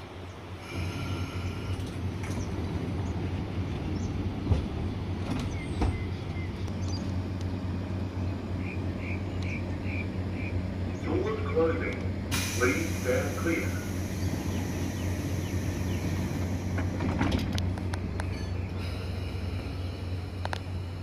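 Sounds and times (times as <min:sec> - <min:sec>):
electric train humming: 0:00.0 - 0:21.0.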